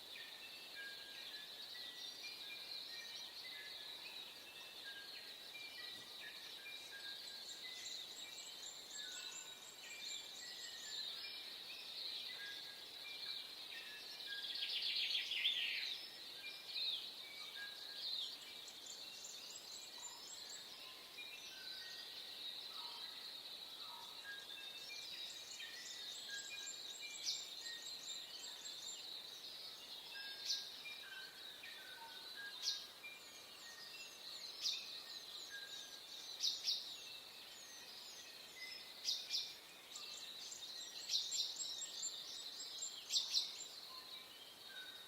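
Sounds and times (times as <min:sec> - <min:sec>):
birds chirping and trilling: 0:00.2 - 0:45.0.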